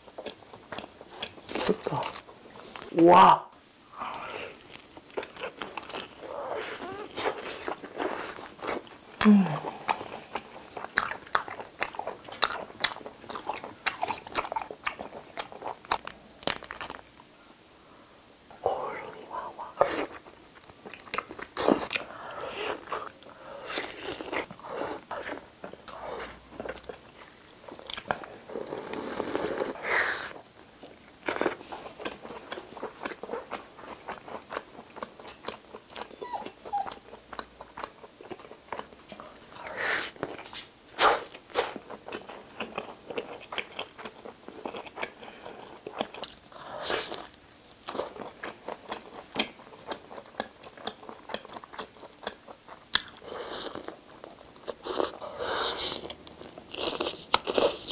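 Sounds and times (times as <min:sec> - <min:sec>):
person chewing food: 0:00.0 - 0:02.9, 0:04.0 - 0:17.2, 0:19.6 - 0:57.9.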